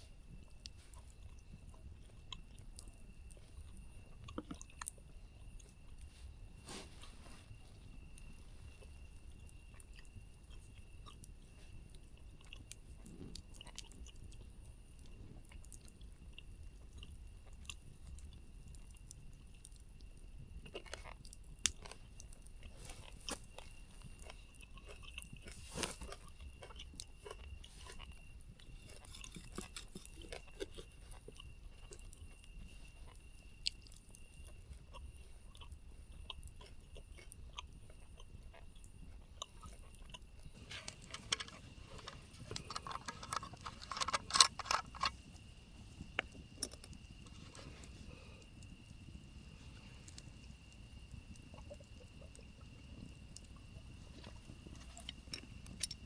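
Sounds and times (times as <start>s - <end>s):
chewing with small crunches: 0.0s - 56.0s.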